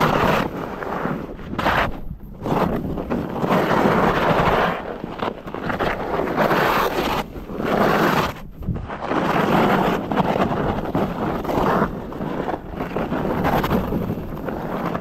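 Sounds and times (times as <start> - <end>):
skis scraping on hard snow: 0.0 - 15.0
wind buffeting microphone: 0.0 - 15.0.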